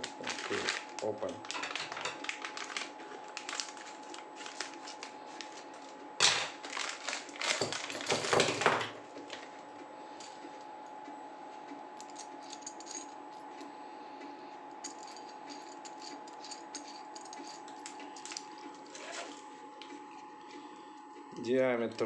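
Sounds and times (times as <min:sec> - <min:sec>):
thin constant whine: 0:00.0 - 0:22.0.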